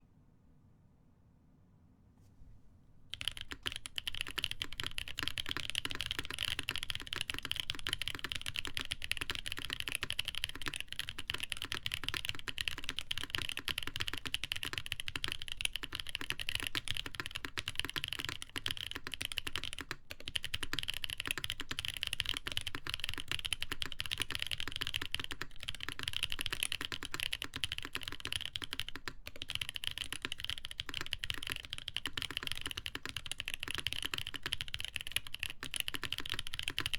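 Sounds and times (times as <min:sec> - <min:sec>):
fast typing on mechanical keyboard: 0:03.1 - 0:36.9.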